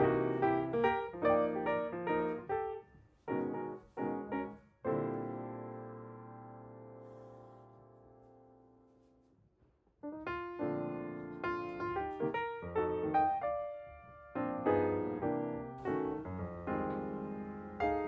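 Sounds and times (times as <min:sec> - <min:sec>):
gentle piano music: 0:00.0 - 0:09.1, 0:10.0 - 0:18.0.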